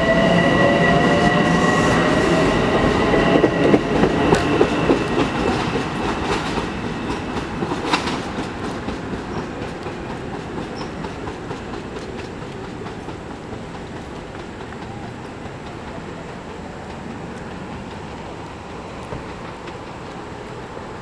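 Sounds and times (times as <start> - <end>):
electric train pulling away: 0.0 - 21.0
train wheels clicking over rails: 0.0 - 21.0.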